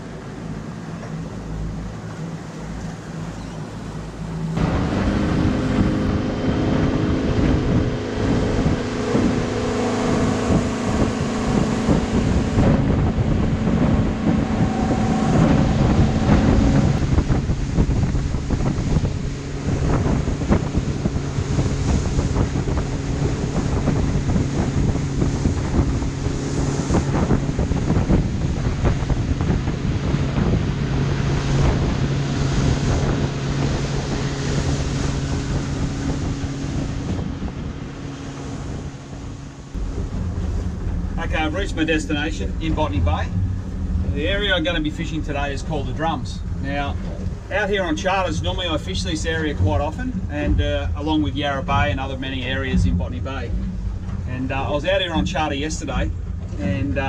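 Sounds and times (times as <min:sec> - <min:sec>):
boat engine running: 0:00.0 - 0:57.0
water rushing along hull: 0:00.0 - 0:57.0
wind buffeting microphone: 0:00.0 - 0:57.0.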